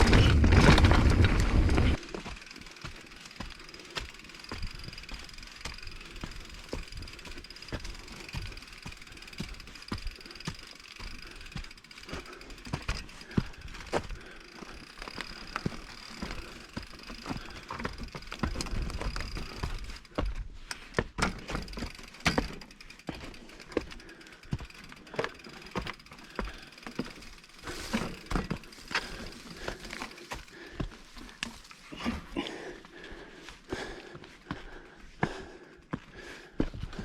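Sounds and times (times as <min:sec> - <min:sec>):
bike knocking and rattling: 0:00.0 - 0:37.0.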